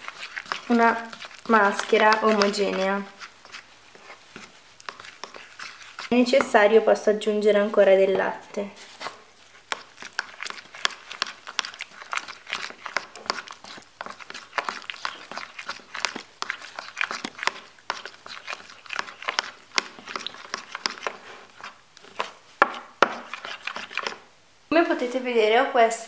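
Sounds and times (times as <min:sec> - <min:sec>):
wet paste squelching: 0:00.0 - 0:07.0, 0:08.8 - 0:24.3
spoon scraping plastic bowl: 0:00.0 - 0:07.1, 0:08.7 - 0:24.3.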